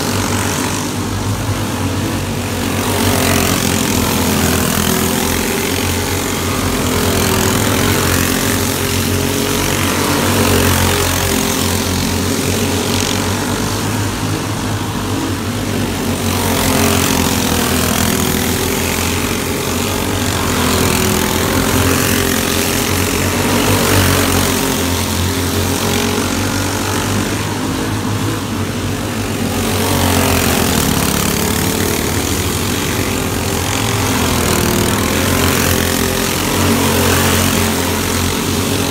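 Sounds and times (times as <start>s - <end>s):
racing car engines buzzing: 0.0s - 38.9s.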